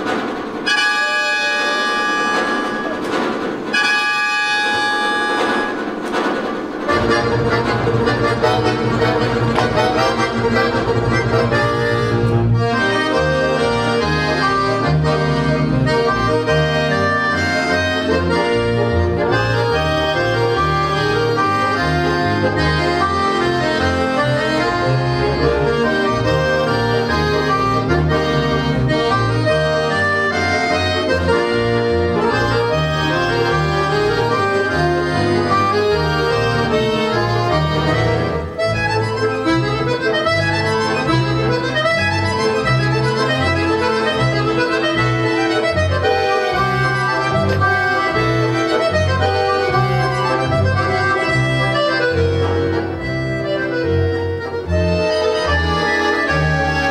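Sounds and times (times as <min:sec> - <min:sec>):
accordions playing chords and melody: 0:00.0 - 0:56.9
bass accordion: 0:00.0 - 0:56.9.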